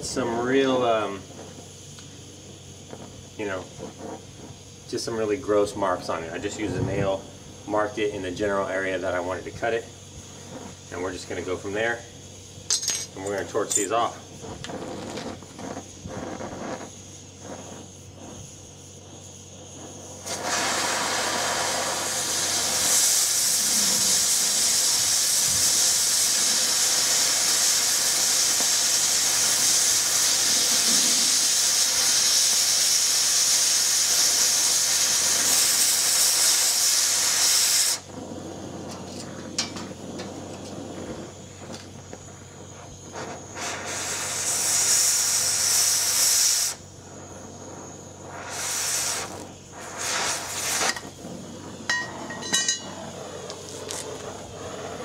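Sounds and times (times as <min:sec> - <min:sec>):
cutting torch hissing: 0:00.0 - 0:55.0.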